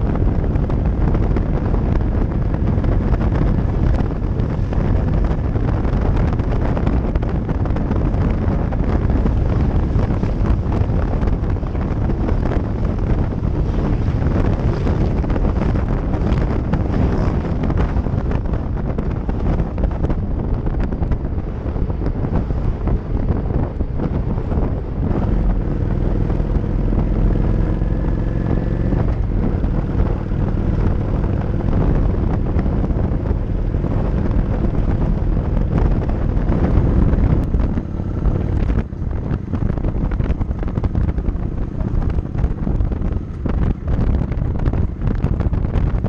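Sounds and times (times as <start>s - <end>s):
motorcycle engine: 0.0s - 46.0s
road noise: 0.0s - 46.0s
wind buffeting microphone: 0.0s - 46.0s.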